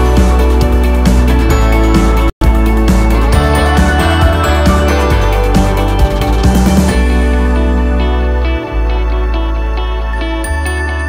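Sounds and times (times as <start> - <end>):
instrumental music with bass: 0.0 - 11.0.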